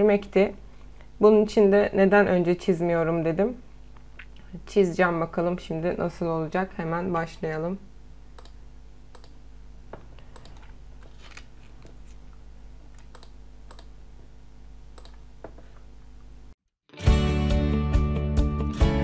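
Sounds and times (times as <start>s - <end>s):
low steady hum: 0.0s - 16.6s.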